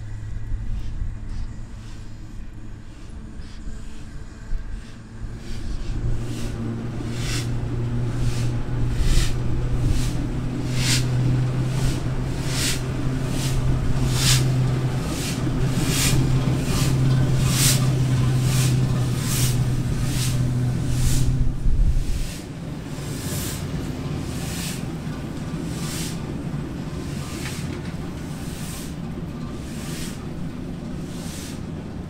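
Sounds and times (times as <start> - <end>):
low hum: 0.0 - 32.0
steam exhaust hissing: 0.0 - 32.0.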